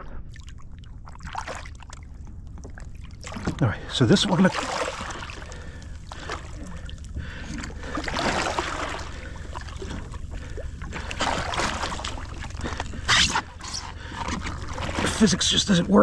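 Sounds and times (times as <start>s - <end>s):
water splashing against kayak: 0.3s - 15.6s.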